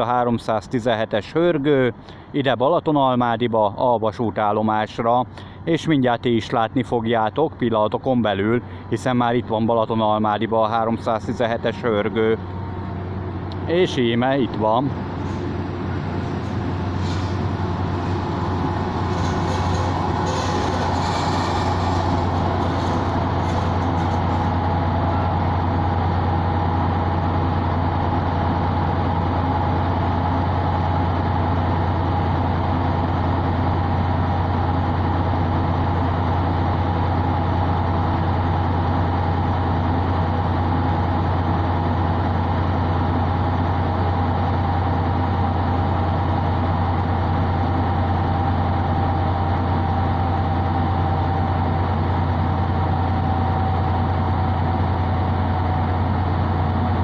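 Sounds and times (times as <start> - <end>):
locomotive engine idling: 4.1 - 57.0
steady whine: 8.1 - 57.0.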